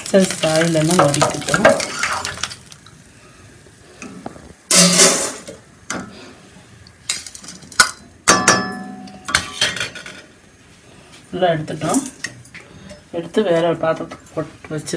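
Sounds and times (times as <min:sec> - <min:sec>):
oil sizzling: 0:00.0 - 0:13.8.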